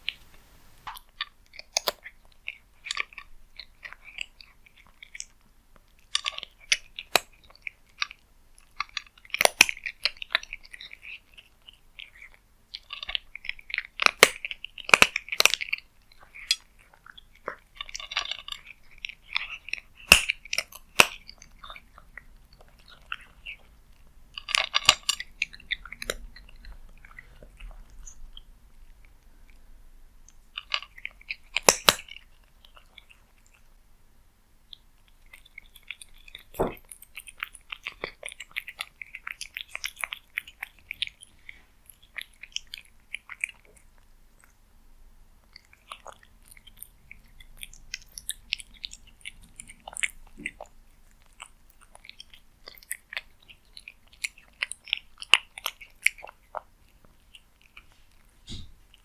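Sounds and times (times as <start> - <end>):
cat chewing and crunching: 0.0 - 59.0.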